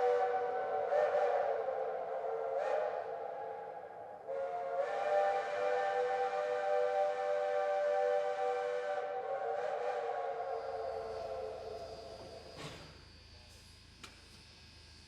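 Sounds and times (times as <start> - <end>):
steam locomotive chime whistle: 0.0 - 13.5
steam hissing: 0.0 - 15.0.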